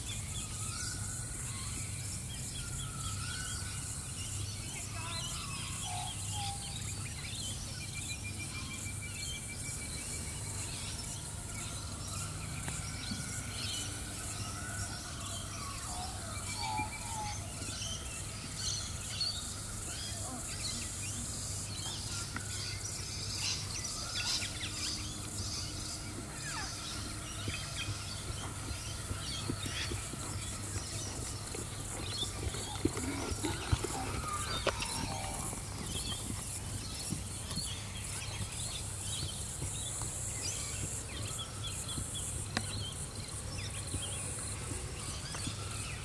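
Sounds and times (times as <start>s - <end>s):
birds chirping and calling: 0.0s - 46.0s.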